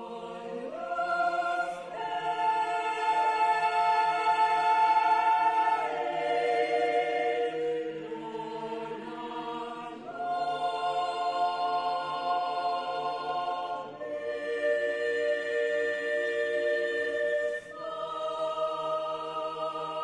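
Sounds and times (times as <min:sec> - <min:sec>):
choir singing unaccompanied: 0:00.0 - 0:20.0.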